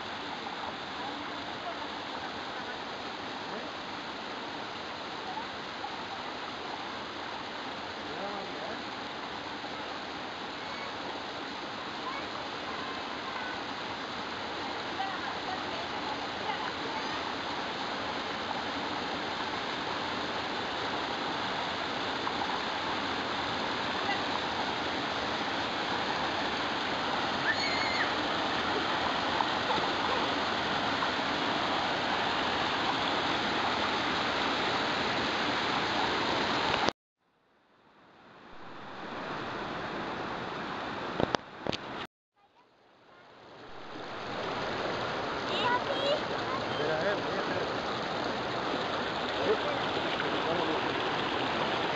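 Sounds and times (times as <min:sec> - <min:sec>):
waterfall rushing over rocks: 0:00.0 - 0:36.9, 0:38.4 - 0:42.1, 0:43.3 - 0:51.9.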